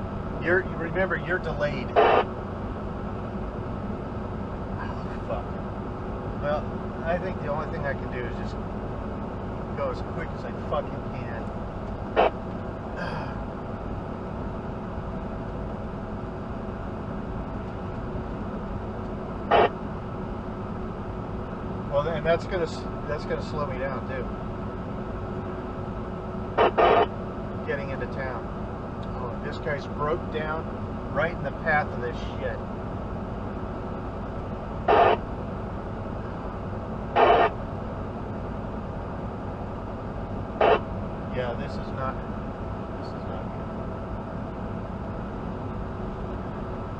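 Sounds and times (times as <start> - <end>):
truck engine and road noise: 0.0 - 46.9.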